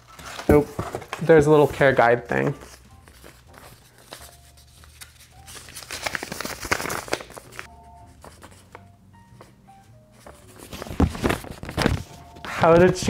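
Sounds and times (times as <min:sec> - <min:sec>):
paper crinkling and rustling: 0:00.0 - 0:08.8, 0:10.2 - 0:13.0.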